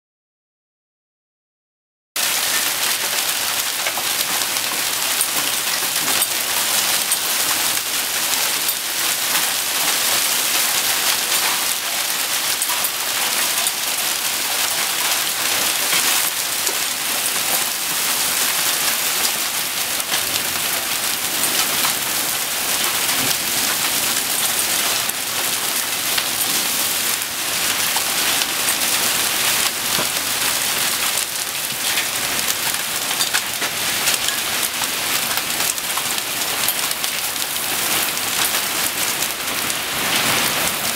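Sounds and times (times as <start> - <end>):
hail and rain on wooden deck: 2.2 - 40.9.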